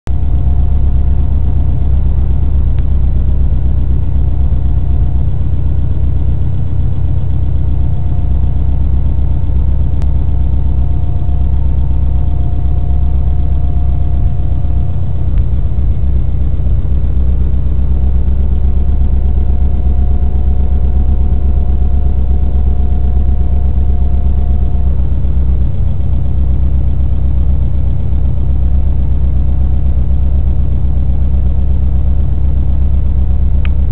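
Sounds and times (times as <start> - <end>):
car engine running: 0.0 - 33.9
engine ticking: 0.0 - 33.9.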